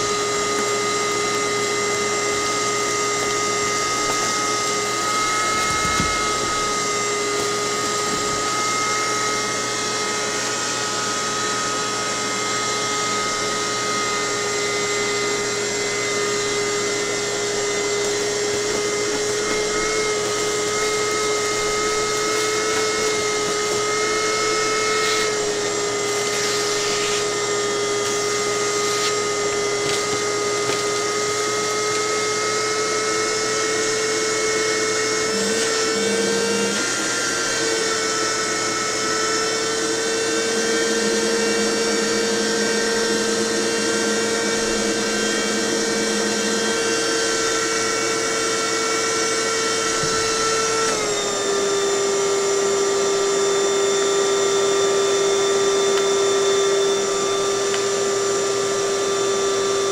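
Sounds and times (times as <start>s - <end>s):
electric motor humming: 0.0s - 59.9s.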